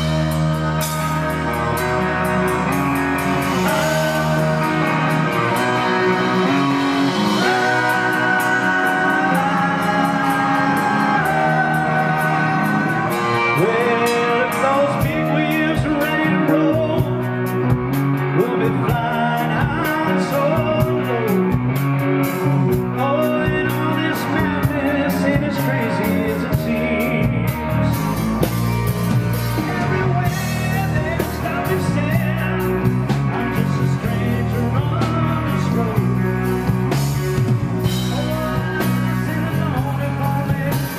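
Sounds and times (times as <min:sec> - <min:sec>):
bass guitar: 0:00.0 - 0:40.9
drums: 0:00.0 - 0:40.9
electric guitar: 0:00.0 - 0:40.9
man singing lead vocals: 0:00.0 - 0:40.9.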